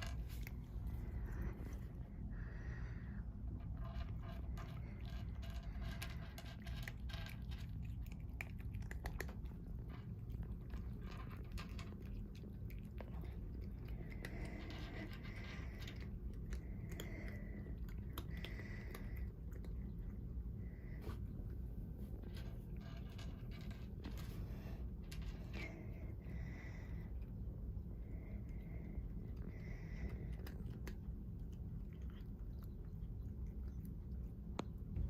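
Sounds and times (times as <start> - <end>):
cat crunching treats: 0.0 - 21.0, 22.1 - 34.9
low steady hum: 0.0 - 35.0.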